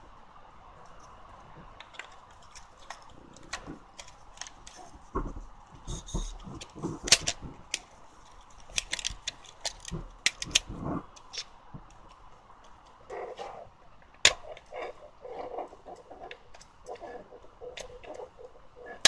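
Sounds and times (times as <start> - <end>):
handling rustle: 0.8 - 19.0.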